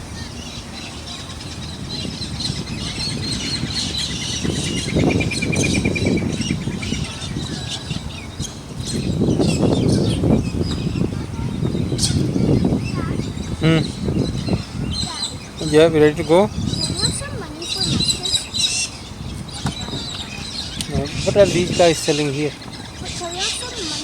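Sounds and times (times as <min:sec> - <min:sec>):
birds chirping and squawking: 0:00.0 - 0:24.0
fast even bird trill: 0:00.0 - 0:24.0
low rumbling noise: 0:00.0 - 0:24.0.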